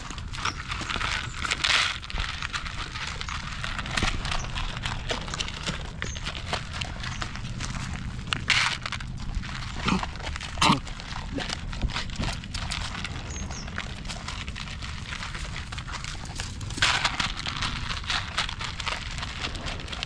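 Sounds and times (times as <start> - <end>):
dogs crunching kibble: 0.0 - 20.0.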